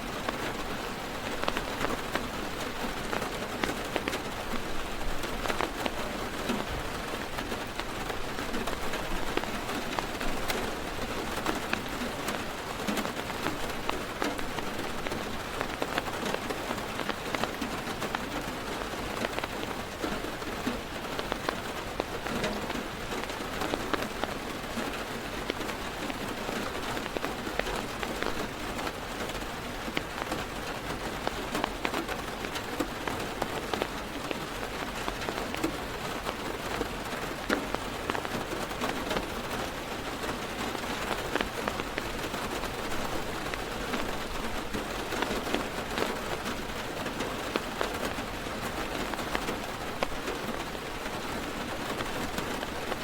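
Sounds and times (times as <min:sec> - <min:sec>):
heavy rain on car roof: 0:00.0 - 0:53.0.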